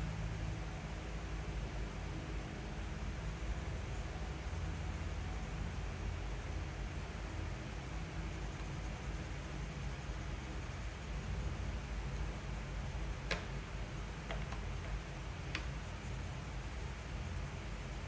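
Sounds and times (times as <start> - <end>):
steady hiss: 2.4 - 18.0.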